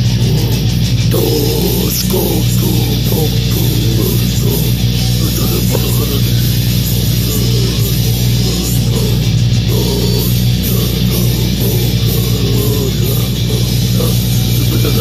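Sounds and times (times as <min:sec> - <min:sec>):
death metal music: 0:00.0 - 0:15.0
man growling vocals: 0:00.0 - 0:15.0.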